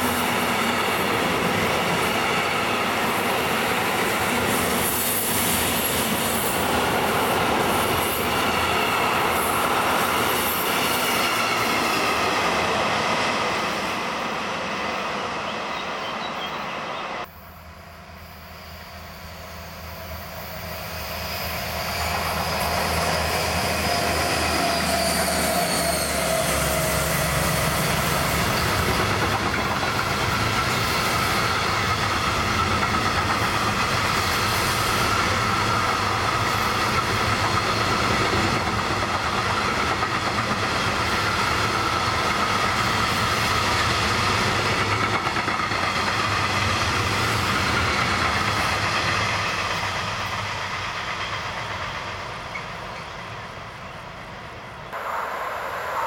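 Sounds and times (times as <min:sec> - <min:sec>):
locomotive whine: 0:00.0 - 0:45.0, 0:52.2 - 0:56.0
train wheel squeal: 0:00.0 - 0:56.0.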